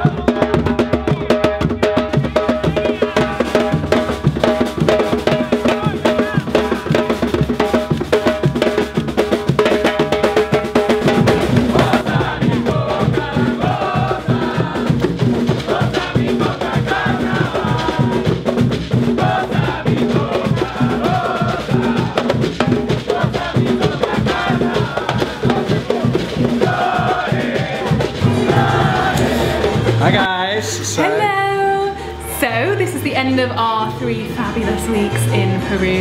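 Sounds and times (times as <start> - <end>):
snare drums: 0.0 - 30.4
bass drums: 0.0 - 36.0
metal-shelled drums: 0.0 - 36.0
voices singing: 0.0 - 36.0.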